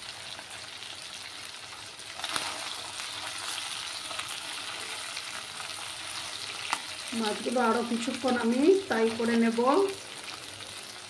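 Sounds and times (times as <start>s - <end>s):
fish sizzling in oil: 0.0s - 11.0s.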